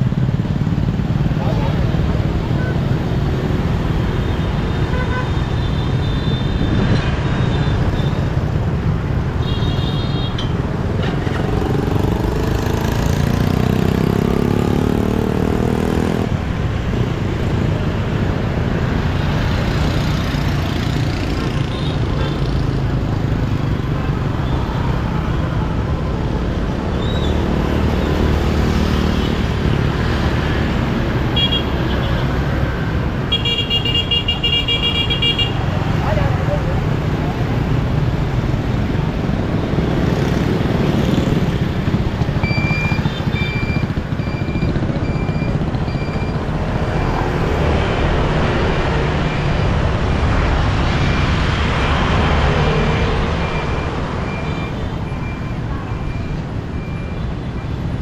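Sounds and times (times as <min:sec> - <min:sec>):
motorbike engines: 0:00.0 - 0:58.0.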